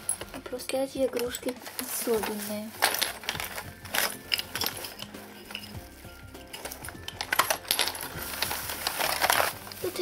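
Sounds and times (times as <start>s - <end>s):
glass ornaments clinking: 0.0s - 10.0s
plastic bag rustling: 0.0s - 10.0s.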